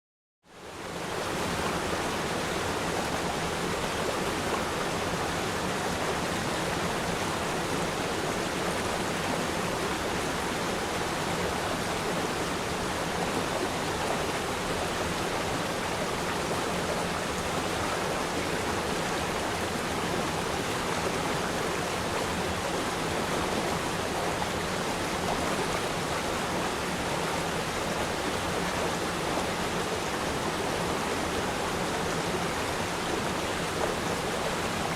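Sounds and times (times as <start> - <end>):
river stream flowing: 0.5 - 34.9.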